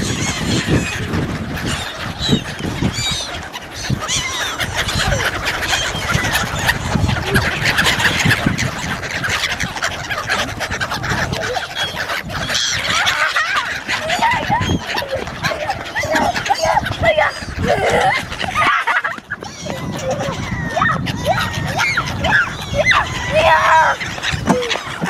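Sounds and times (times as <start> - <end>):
flock of birds chattering: 0.0 - 25.0.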